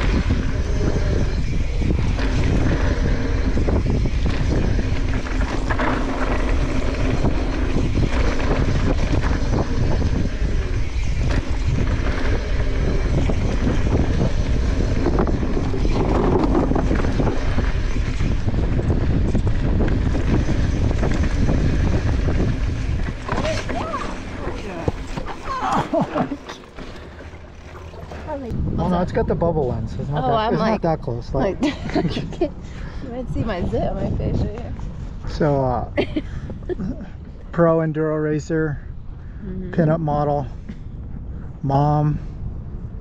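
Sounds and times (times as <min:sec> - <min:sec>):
low rumble: 0:00.0 - 0:43.0
wind buffeting microphone: 0:00.0 - 0:43.0.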